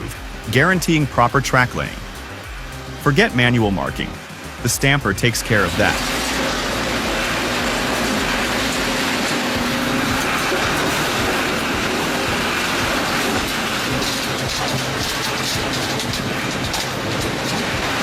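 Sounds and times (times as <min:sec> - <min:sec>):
machinery running: 0:00.0 - 0:18.0.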